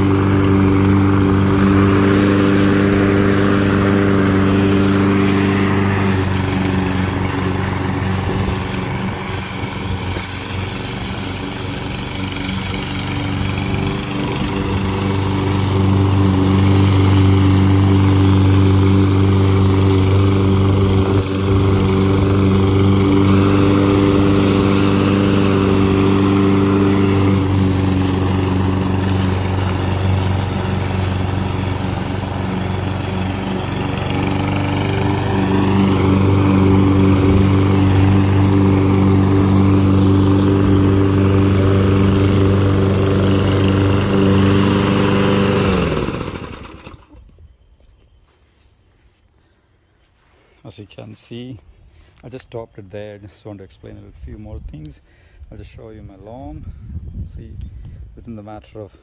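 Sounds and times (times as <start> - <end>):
lawn mower engine cutting grass: 0.0 - 47.4.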